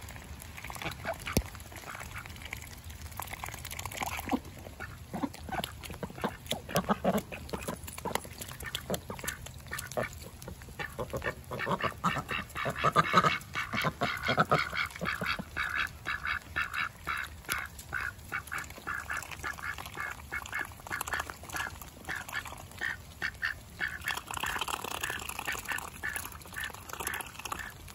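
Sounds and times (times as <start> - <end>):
ducks quacking: 4.0 - 27.9.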